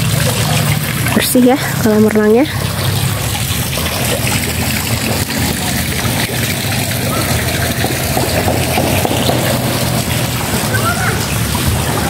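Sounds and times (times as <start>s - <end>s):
fountain water splashing into pool: 0.0s - 12.0s
low steady hum: 0.8s - 12.0s.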